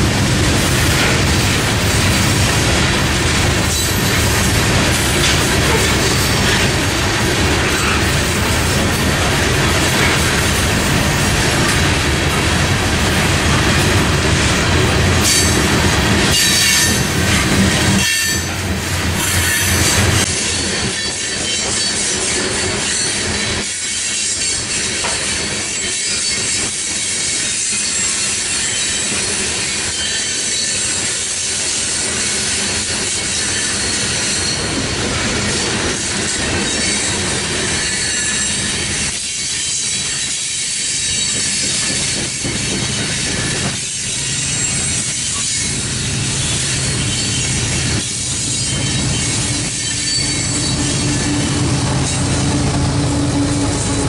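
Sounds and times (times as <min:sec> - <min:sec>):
freight train rumbling: 0:00.0 - 0:54.0
high-pitched train wheel noise: 0:00.0 - 0:54.0.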